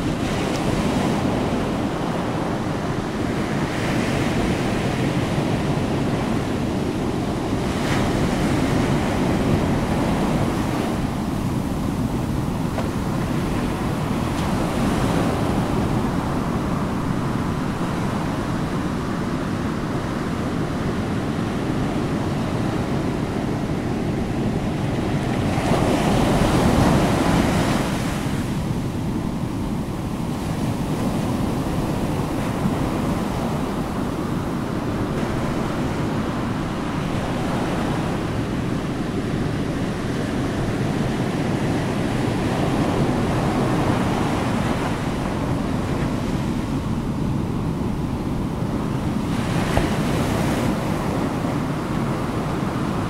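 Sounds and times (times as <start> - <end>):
ocean waves washing: 0.0 - 53.0.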